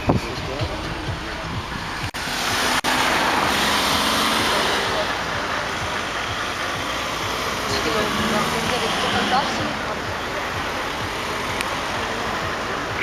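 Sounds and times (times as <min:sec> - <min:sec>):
wind and road noise in vehicle: 0:00.0 - 0:13.0.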